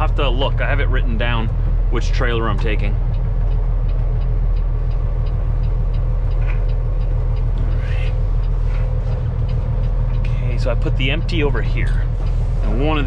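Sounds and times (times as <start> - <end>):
truck diesel engine droning: 0.0 - 13.0
faint quick ticking: 1.1 - 12.8.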